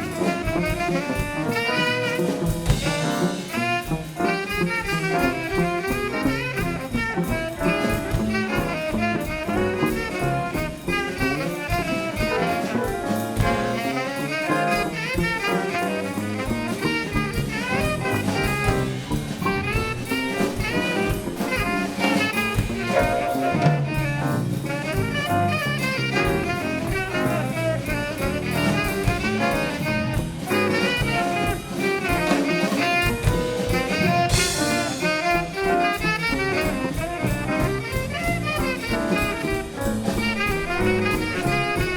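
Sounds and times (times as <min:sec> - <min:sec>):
drum kit steady beat: 0:00.0 - 0:41.9
saxophone and brass melody: 0:00.0 - 0:41.9.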